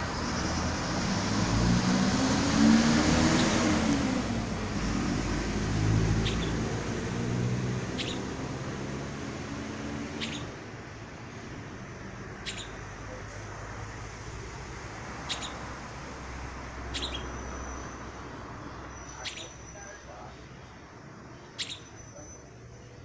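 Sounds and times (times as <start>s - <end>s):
passing vehicle engine hum: 0.0s - 23.0s.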